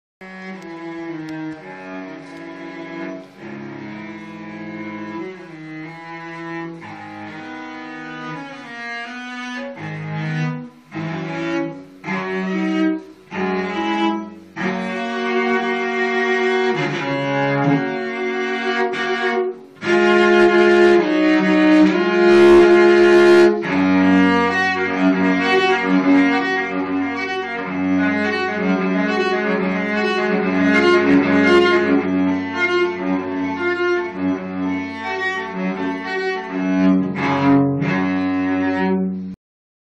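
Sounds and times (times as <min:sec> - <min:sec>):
cello being bowed: 0:00.2 - 0:39.4.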